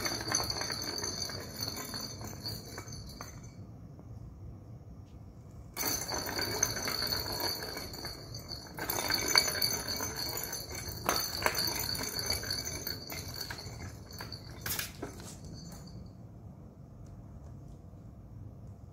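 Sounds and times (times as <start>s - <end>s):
ball rolling and jingling in track: 0.0s - 4.6s, 5.5s - 16.7s.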